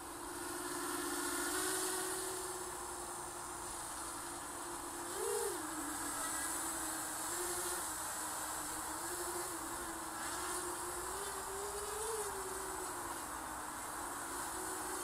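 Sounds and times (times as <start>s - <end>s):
quadcopter motors humming: 0.0s - 15.0s.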